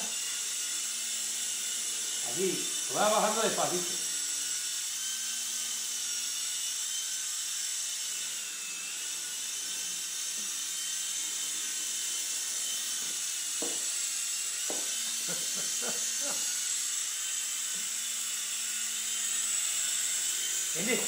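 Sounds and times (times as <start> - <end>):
toy helicopter whine: 0.0 - 21.0.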